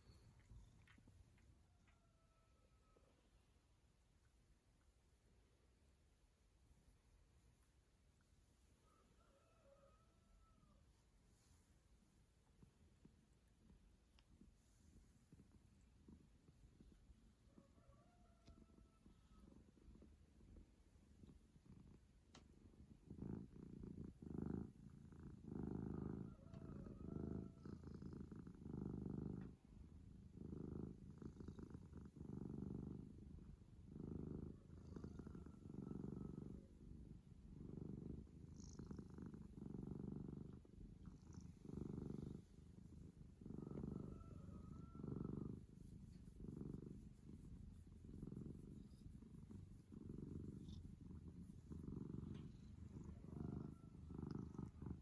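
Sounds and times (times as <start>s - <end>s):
cat purring: 0.0s - 2.0s, 10.1s - 17.8s, 18.5s - 55.0s.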